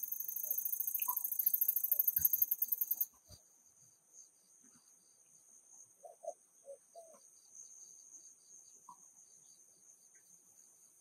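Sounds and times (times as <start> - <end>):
crickets trilling and chirping: 0.0 - 11.0.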